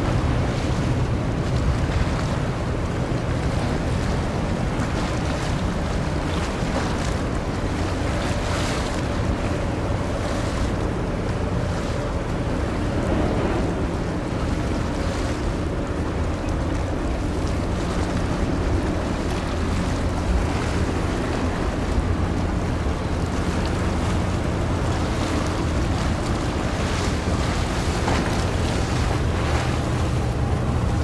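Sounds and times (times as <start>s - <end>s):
ship diesel engine humming: 0.0s - 31.0s
water washing: 0.0s - 31.0s.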